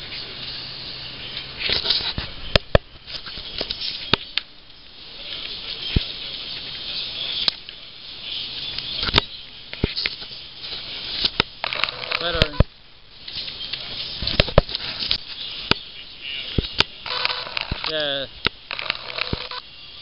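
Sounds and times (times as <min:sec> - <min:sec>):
rustling hiss: 0:00.0 - 0:20.0.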